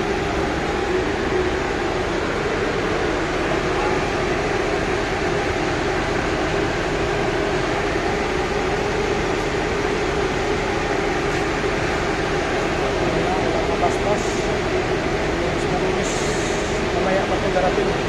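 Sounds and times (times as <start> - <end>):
air-conditioning drone: 0.0 - 18.0
bus engines idling: 0.0 - 18.0.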